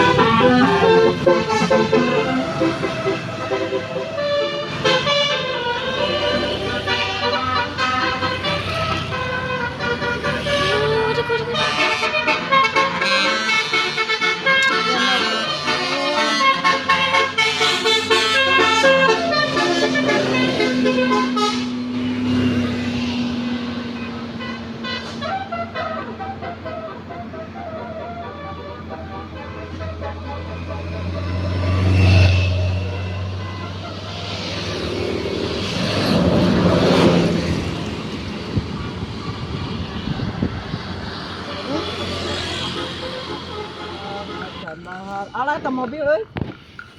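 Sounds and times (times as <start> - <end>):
musical air horn tune: 0.0 - 23.0, 23.9 - 37.6, 41.6 - 45.8
bus passing: 0.0 - 46.9.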